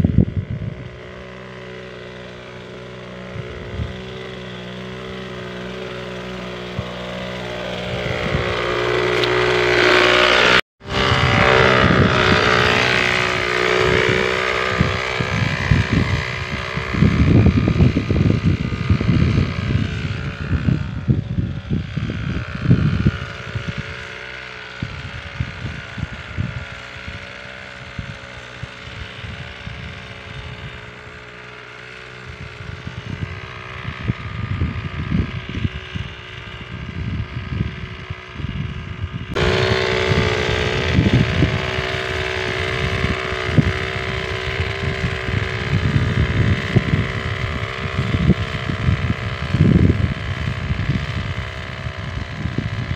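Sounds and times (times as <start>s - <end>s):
small engine running: 0.0s - 52.9s
wind buffeting microphone: 0.0s - 52.9s.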